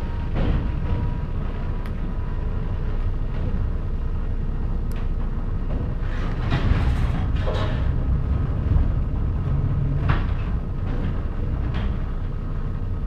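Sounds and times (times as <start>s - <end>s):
train clatter: 0.0s - 13.0s
train wheels rumbling on rail: 0.0s - 13.0s.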